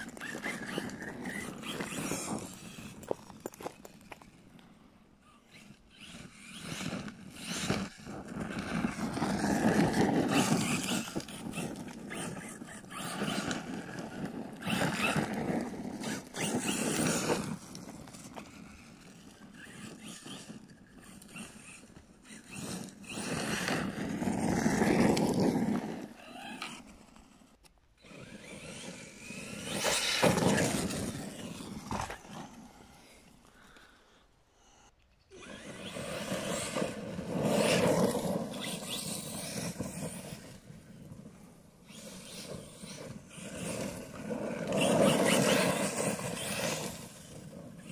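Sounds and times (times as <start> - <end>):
electric motor and tyres on dirt: 0.0 - 47.9.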